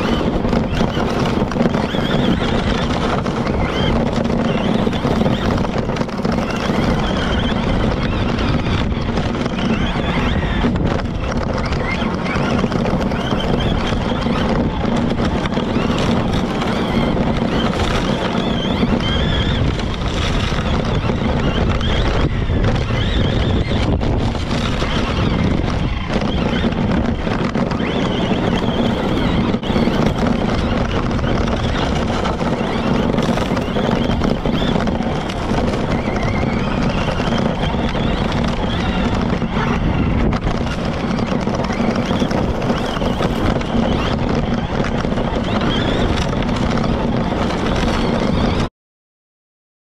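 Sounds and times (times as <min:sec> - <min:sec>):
electric motor whine: 0:00.0 - 0:48.7
rc truck driving on dirt: 0:00.0 - 0:48.7.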